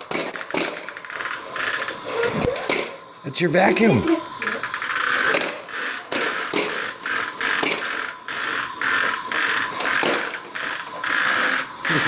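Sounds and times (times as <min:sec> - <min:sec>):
toy vacuum cleaner whirring: 0:00.0 - 0:12.0.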